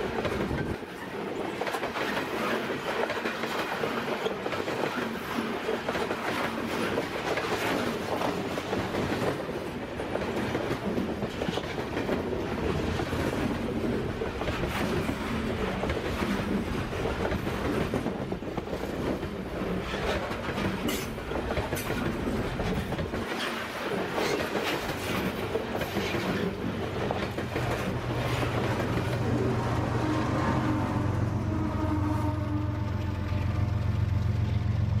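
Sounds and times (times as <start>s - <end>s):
clickety-clack over rail joints: 0.0s - 30.0s
train wheels rumbling on rail: 0.0s - 35.0s.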